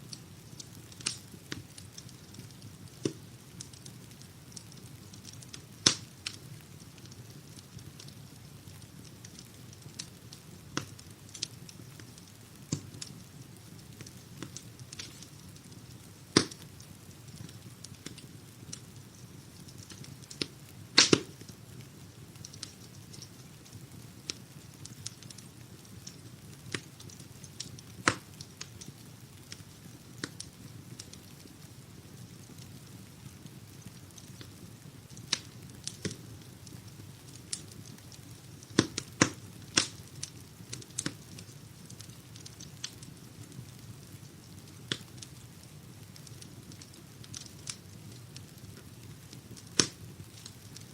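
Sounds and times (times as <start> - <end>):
wood fire crackling and popping: 0.0 - 50.9
low rumble of flames: 0.1 - 50.9.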